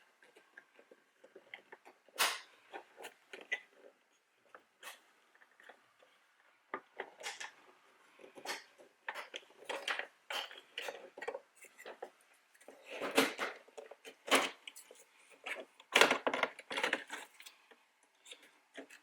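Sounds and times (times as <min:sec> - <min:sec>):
plastic trim parts clicking and rattling: 0:00.1 - 0:19.0.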